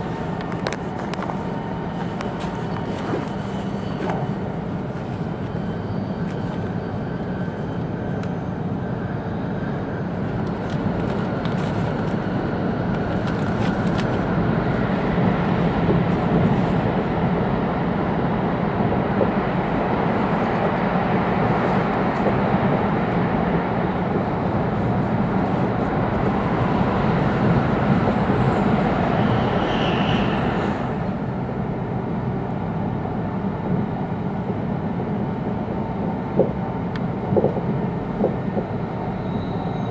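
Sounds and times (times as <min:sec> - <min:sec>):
train interior rumble: 0:00.0 - 0:39.9.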